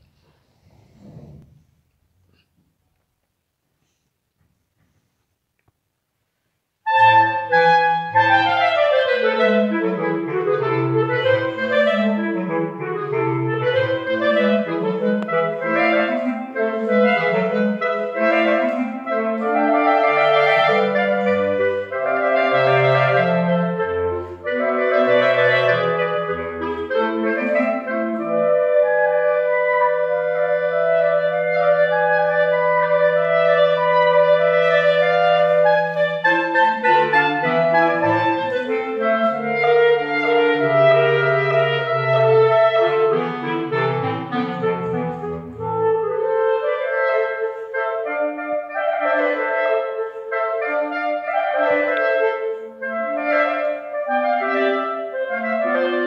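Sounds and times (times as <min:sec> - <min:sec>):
clarinet quartet playing: 0:06.9 - 0:56.0.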